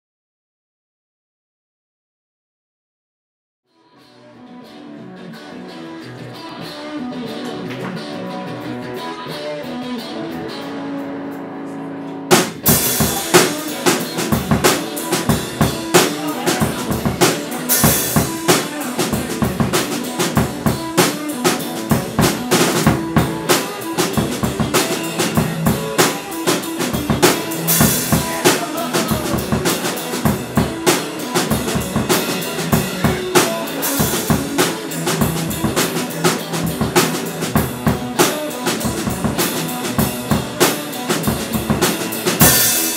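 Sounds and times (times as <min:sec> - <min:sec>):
electric guitar: 0:03.7 - 0:42.9
drum kit: 0:05.4 - 0:42.9.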